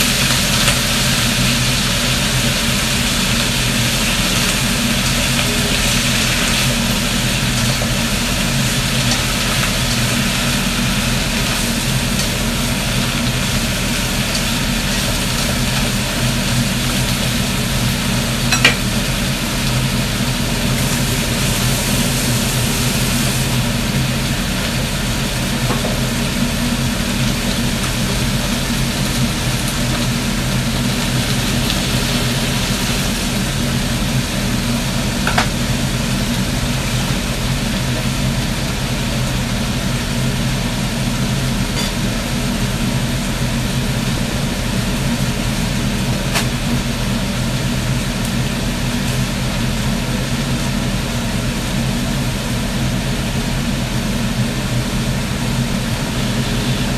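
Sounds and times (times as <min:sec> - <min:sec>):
cabbage stir-frying in a wok: 0:00.0 - 0:56.9
range hood fan hum: 0:00.0 - 0:56.9.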